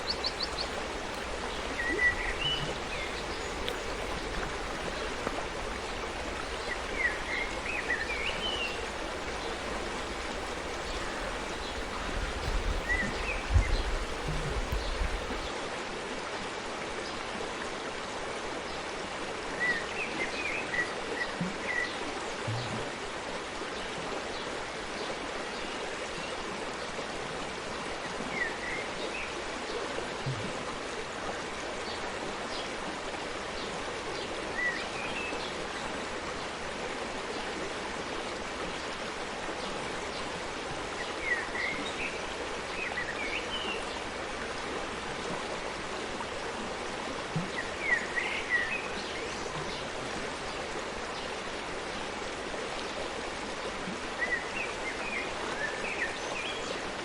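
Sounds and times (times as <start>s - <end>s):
forest stream running: 0.0s - 57.0s.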